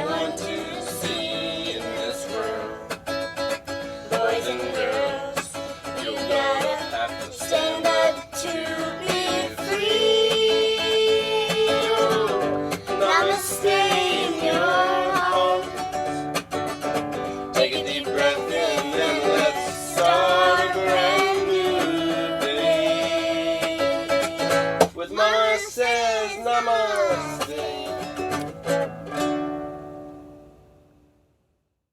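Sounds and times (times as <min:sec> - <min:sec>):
plucked string accompaniment: 0:00.0 - 0:25.0, 0:26.9 - 0:30.8.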